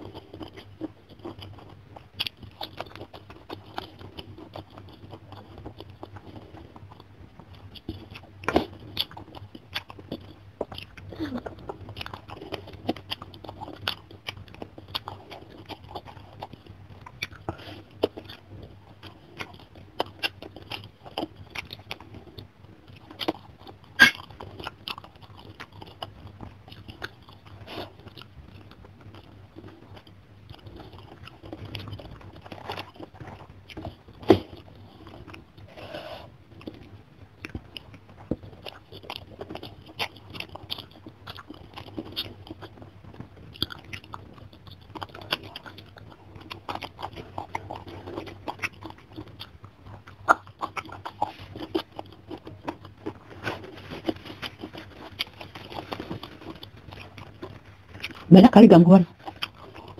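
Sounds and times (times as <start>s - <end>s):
chewing with mouth clicks: 0.0s - 59.9s.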